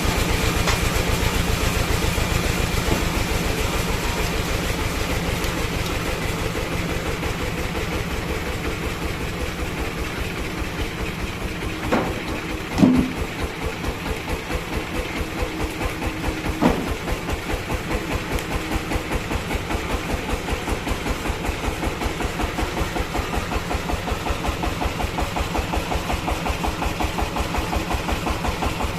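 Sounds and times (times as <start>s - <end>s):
sawmill engine running: 0.0s - 28.9s.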